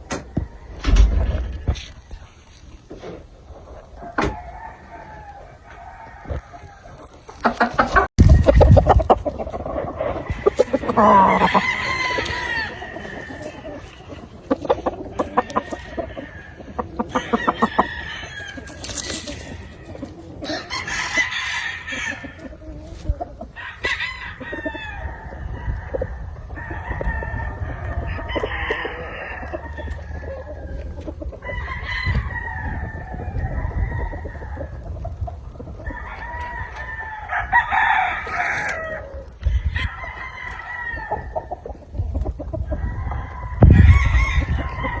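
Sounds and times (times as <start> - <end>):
roosters crowing: 0.0 - 2.4, 3.7 - 45.0
chickens clucking: 0.0 - 45.0.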